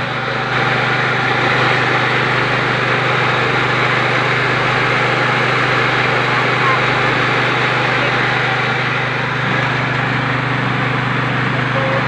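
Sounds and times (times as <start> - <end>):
rice mill humming: 0.0 - 12.0.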